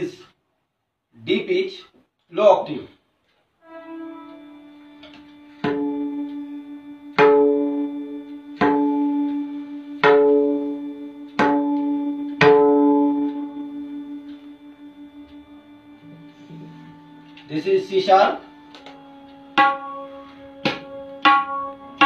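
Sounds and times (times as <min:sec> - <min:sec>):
tabla strokes ringing: 0:03.6 - 0:22.0.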